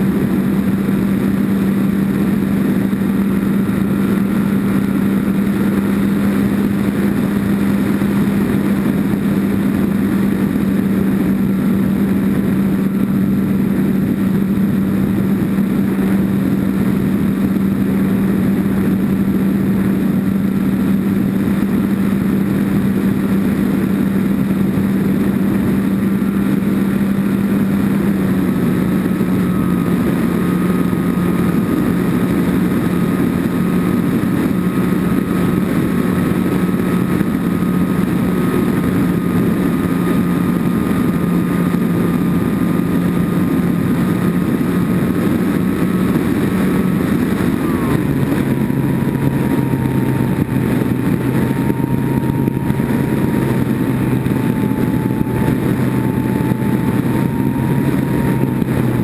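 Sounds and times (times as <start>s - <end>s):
faint whine: 0.0s - 59.0s
model airplane motor humming: 0.0s - 59.0s.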